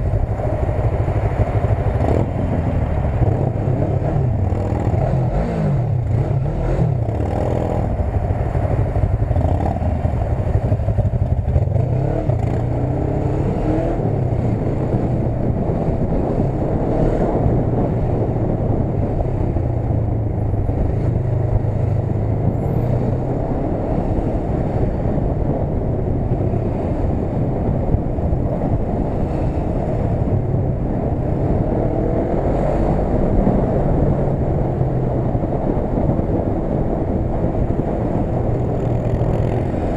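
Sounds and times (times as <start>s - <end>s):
motorcycle engine at low revs: 0.0s - 39.9s
traffic noise: 0.0s - 39.9s
wind: 0.0s - 39.9s.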